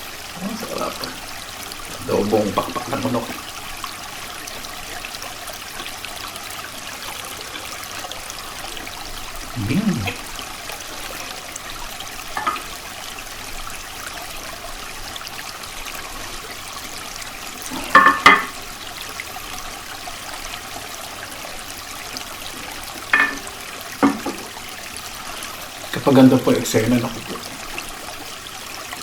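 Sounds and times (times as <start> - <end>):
creek running over stones: 0.0 - 29.0.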